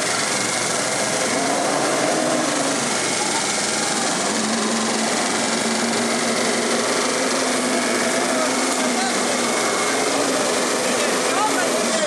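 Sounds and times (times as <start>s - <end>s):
car engine at high revs: 0.0s - 12.0s
wheels spinning in mud: 0.0s - 12.0s.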